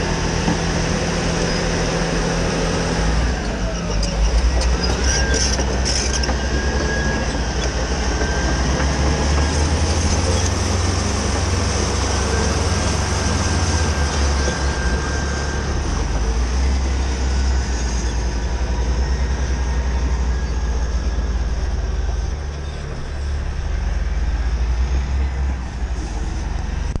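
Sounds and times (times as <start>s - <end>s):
dense mechanical noise: 0.0s - 27.0s
heavy machinery diesel engines rumbling: 0.0s - 27.0s.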